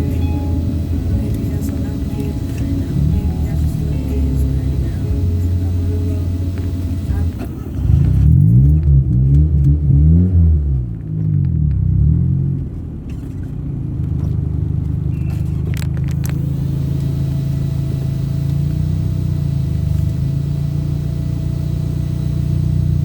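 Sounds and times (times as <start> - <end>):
vehicle engine and road rumble: 0.0 - 23.0.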